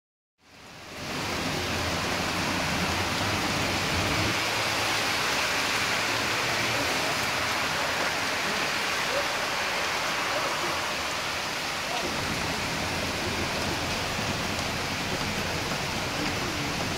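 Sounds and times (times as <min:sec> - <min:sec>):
car driving through floodwater: 0:00.4 - 0:16.9
heavy rain pouring: 0:00.4 - 0:16.9.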